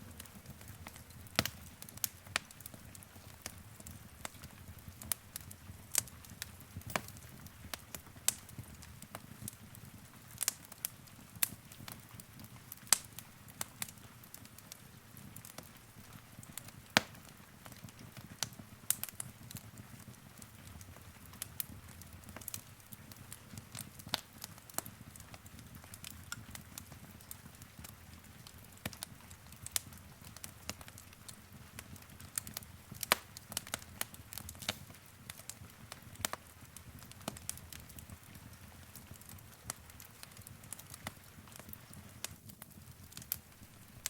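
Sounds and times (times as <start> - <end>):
fire popping and snapping: 0.0 - 44.0
low rumble of burning: 0.0 - 44.0.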